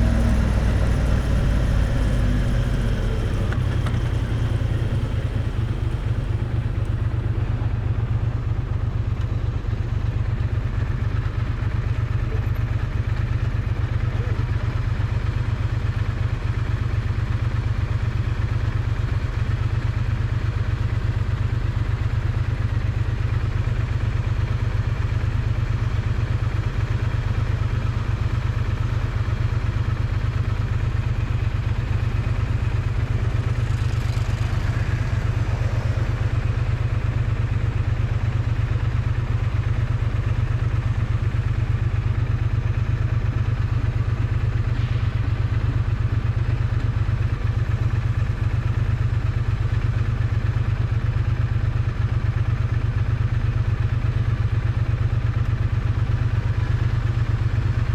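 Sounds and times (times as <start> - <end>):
motorcycle exhaust running steadily: 0.0 - 57.9.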